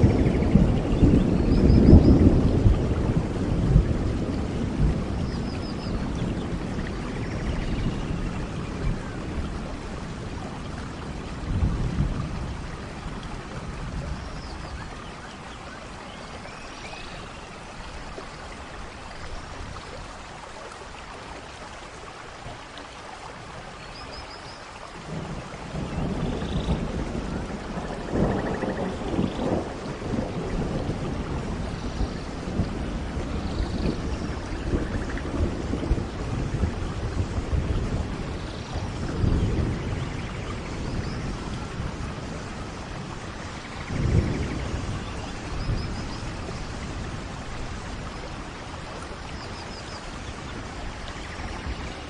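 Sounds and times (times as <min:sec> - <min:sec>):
thunder rumbling: 0:00.0 - 0:15.7, 0:25.0 - 0:52.0
steady rain: 0:00.0 - 0:52.0.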